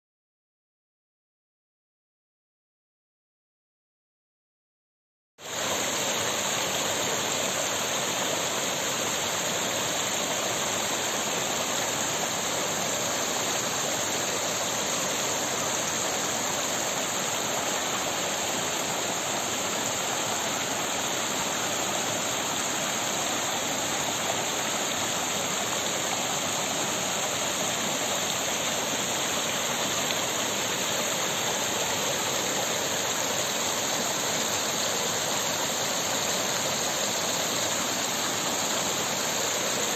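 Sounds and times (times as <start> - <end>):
stream running over rocks: 5.4 - 39.9.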